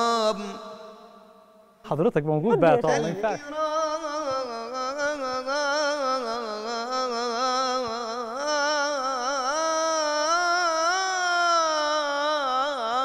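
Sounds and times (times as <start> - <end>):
man chanting: 0.0 - 1.0, 1.9 - 13.0.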